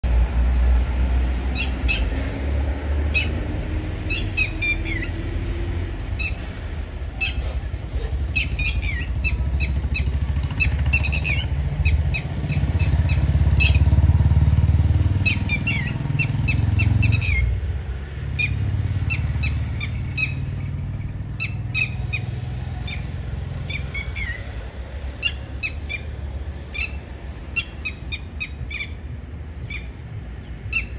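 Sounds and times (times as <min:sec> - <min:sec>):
road traffic rumble: 0:00.0 - 0:30.9
vehicle passing: 0:00.0 - 0:30.9
lapwing calling: 0:01.5 - 0:02.3, 0:03.1 - 0:05.2, 0:06.0 - 0:14.0, 0:15.2 - 0:17.6, 0:18.3 - 0:30.9.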